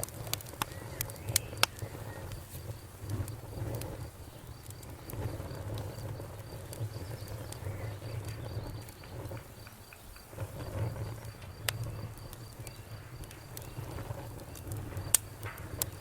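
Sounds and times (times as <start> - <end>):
campfire crackling and popping: 0.0 - 16.0
crickets chirping: 0.0 - 16.0.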